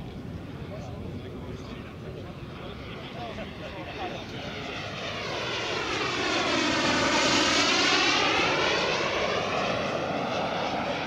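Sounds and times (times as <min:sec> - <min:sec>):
model jet turbine flying past: 0:00.1 - 0:11.0.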